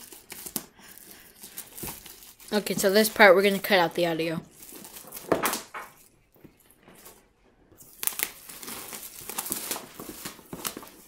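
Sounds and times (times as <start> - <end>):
plastic shrink wrap crinkling: 0.0 - 11.0.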